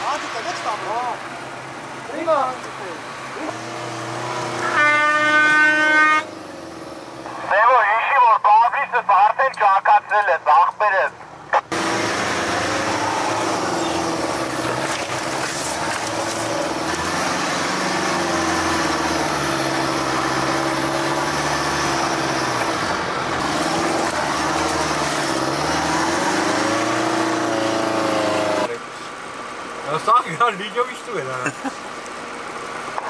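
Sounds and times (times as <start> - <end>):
off-road vehicle engine under load: 0.0 - 33.0.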